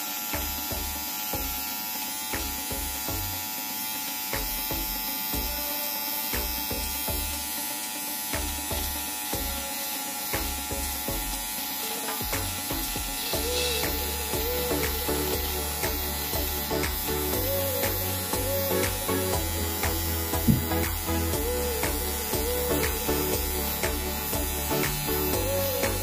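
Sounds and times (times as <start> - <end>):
beard trimmer buzzing: 0.0 - 26.0.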